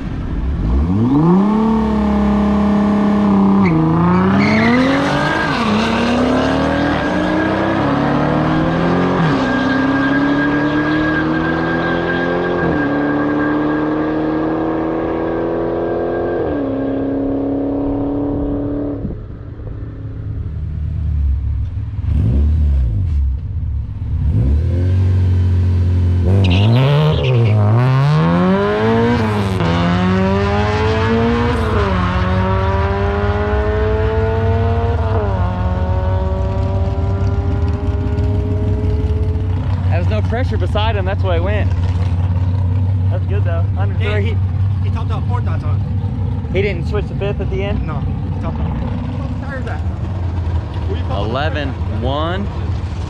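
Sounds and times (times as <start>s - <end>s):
another car engine accelerating: 0.0s - 53.0s
drag car engine accelerating: 0.0s - 53.0s.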